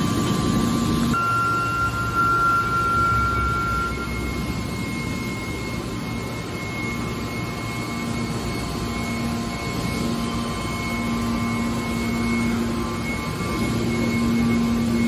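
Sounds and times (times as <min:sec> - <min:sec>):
high whine: 0:00.0 - 0:15.0
hydraulic baler power unit drone: 0:00.0 - 0:15.0
low hum: 0:00.0 - 0:15.0.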